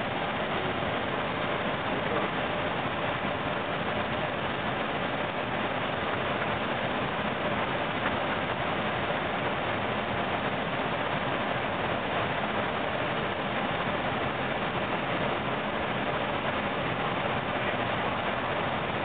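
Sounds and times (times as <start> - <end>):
airflow and engine rush: 0.0 - 19.0.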